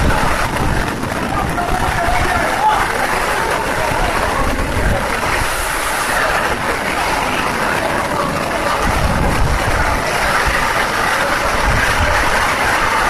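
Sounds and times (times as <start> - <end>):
heavy rain hissing: 0.0 - 13.0
low uneven rumble: 0.0 - 13.0
runoff streaming off steel deck: 0.0 - 13.0.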